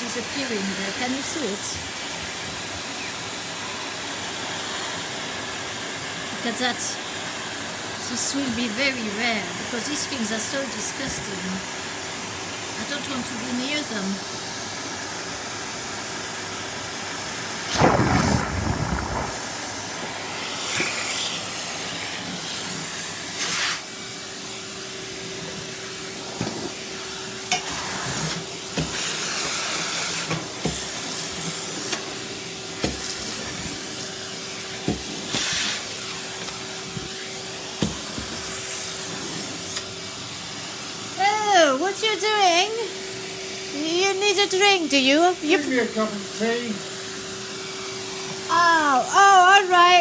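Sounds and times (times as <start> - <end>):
vacuum cleaner running: 0.0 - 50.0.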